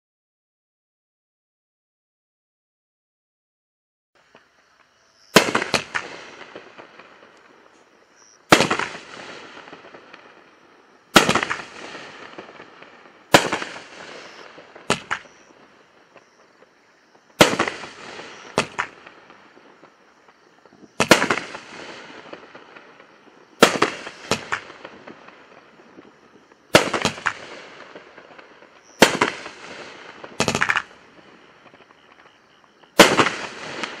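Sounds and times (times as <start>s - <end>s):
fireworks crackle: 4.2s - 34.0s
fireworks bangs: 5.2s - 34.0s.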